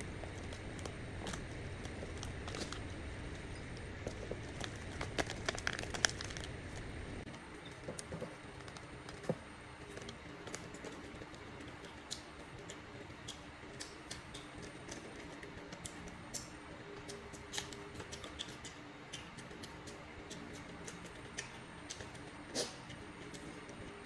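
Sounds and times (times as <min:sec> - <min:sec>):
low steady hum: 0:00.0 - 0:24.0
faint small clicks and ticks: 0:00.3 - 0:22.3.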